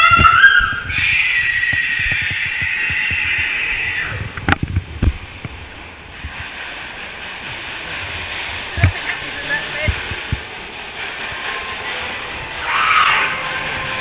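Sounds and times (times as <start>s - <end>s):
ride car rumbling and knocking: 0.0s - 14.0s.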